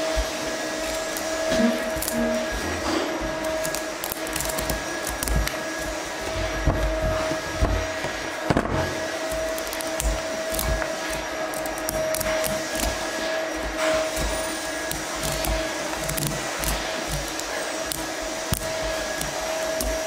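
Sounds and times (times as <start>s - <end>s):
knife scraping pumpkin rind: 0.0s - 20.0s
steady hum: 0.0s - 20.0s.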